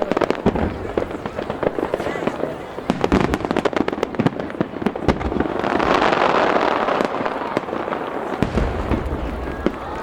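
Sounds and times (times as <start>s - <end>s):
firework bangs: 0.0s - 10.0s
fireworks crackling: 0.0s - 10.0s.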